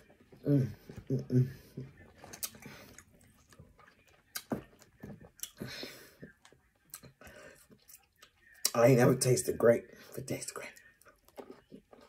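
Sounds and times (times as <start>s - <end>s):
quiet chewing: 0.0s - 8.8s, 10.5s - 12.0s.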